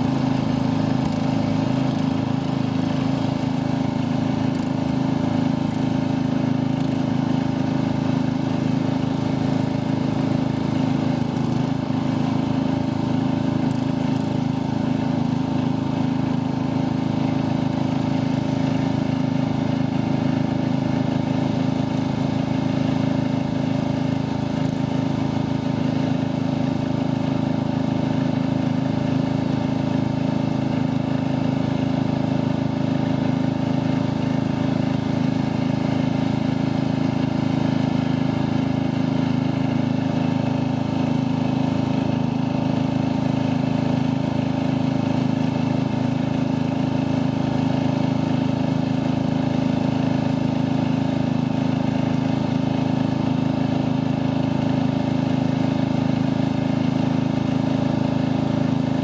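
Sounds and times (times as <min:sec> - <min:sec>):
lawn tractor engine running: 0:00.0 - 0:59.0.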